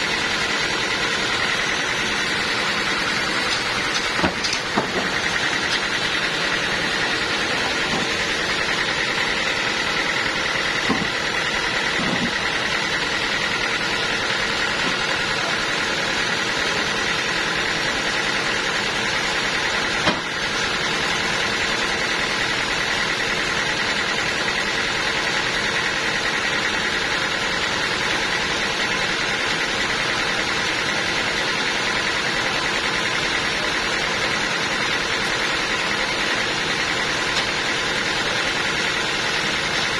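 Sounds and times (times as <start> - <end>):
saw machinery drone: 0.0 - 39.9.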